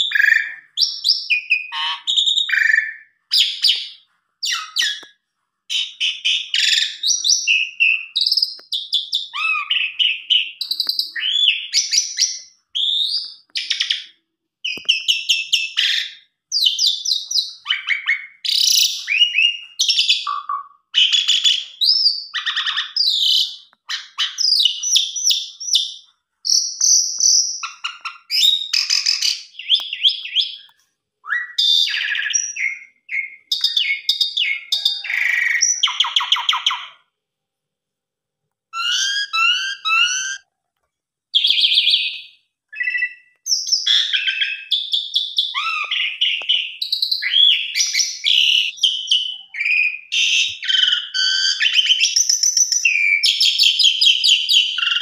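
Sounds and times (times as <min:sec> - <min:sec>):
starling singing: 0:00.0 - 0:05.1, 0:05.7 - 0:30.7, 0:31.3 - 0:37.0, 0:38.8 - 0:40.4, 0:41.4 - 0:55.0.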